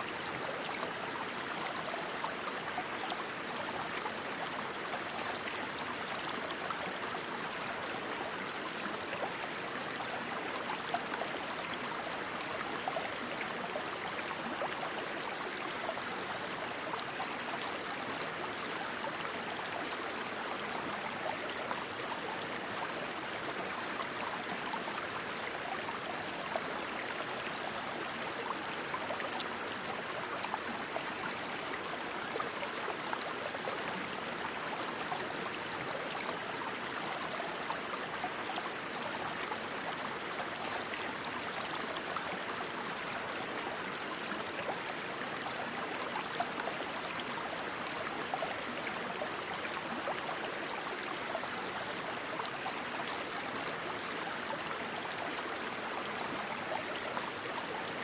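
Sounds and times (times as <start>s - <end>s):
rushing water stream: 0.0s - 58.0s.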